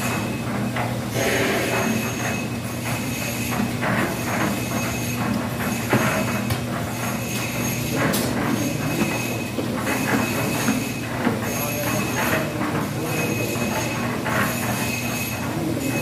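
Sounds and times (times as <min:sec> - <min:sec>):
machine droning: 0:00.0 - 0:16.0
metal clanks and knocks: 0:00.0 - 0:16.0.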